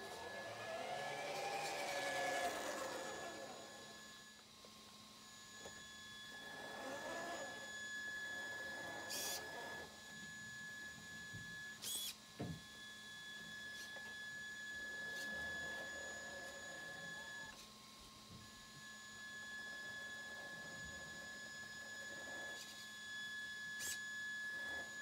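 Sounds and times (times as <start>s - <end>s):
toy car electric motor whining: 0.0s - 4.4s, 5.4s - 10.6s, 11.6s - 12.2s, 13.4s - 17.7s, 18.9s - 25.0s.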